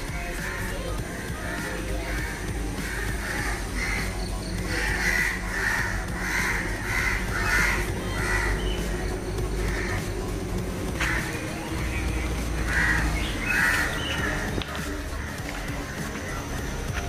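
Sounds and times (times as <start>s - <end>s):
crows cawing: 0.1s - 16.7s.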